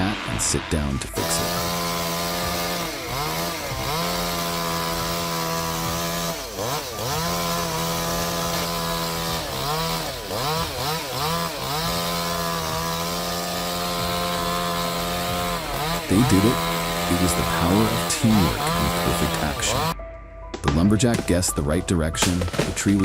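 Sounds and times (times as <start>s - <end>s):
chainsaw revving: 0.0s - 20.0s.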